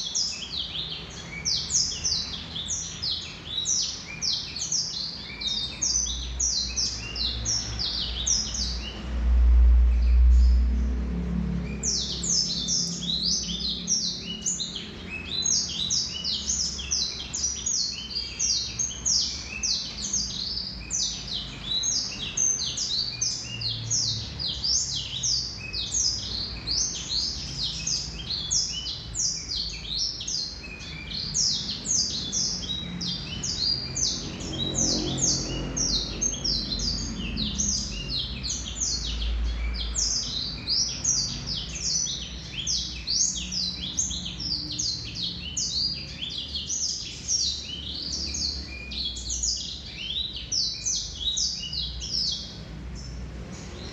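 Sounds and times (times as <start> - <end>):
canary singing: 0.0 - 9.3, 10.0 - 53.9.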